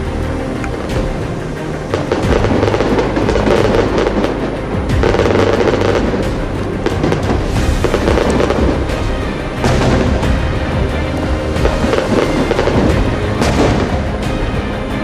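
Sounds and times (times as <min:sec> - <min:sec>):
firework crackling and popping: 0:01.9 - 0:14.4.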